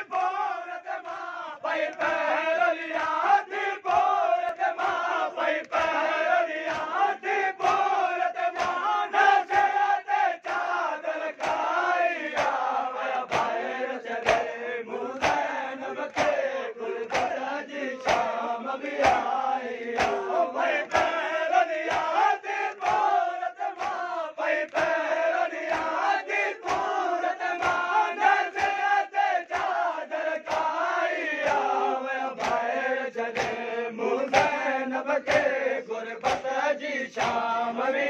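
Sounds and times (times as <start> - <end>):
crowd of men chanting: 0.0 - 38.0
hands slapping chests: 0.1 - 37.6.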